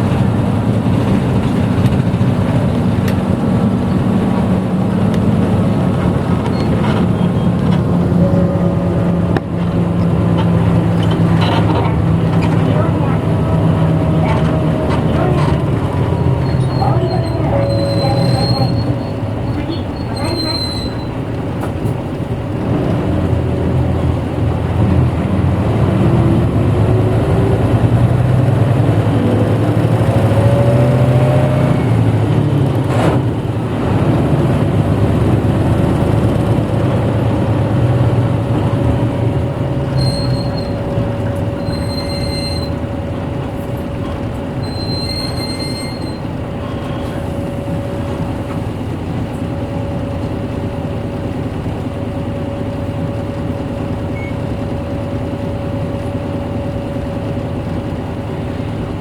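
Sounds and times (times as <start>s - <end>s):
bus engine droning: 0.0s - 59.0s
engine whine: 0.0s - 59.0s.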